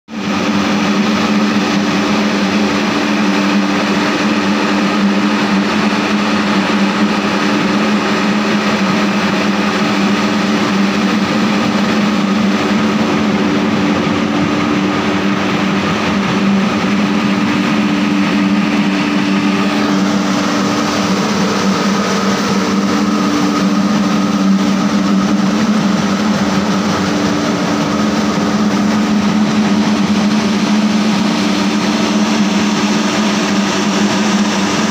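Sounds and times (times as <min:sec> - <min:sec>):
fan humming: 0:00.1 - 0:34.9.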